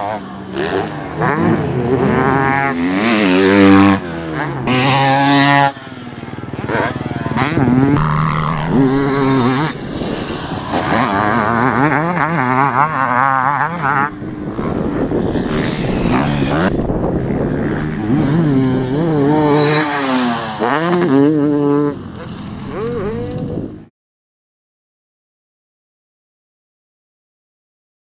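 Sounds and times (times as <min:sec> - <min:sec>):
motocross bike engine revving: 0:00.0 - 0:23.9.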